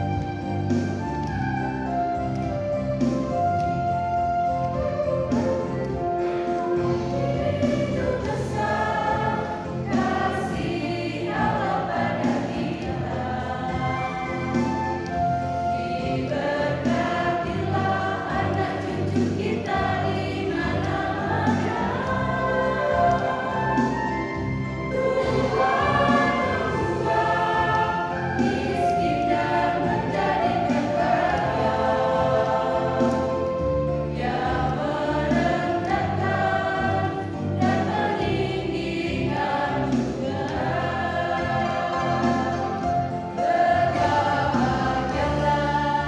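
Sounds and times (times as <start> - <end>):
mixed choir singing: 4.6 - 46.0.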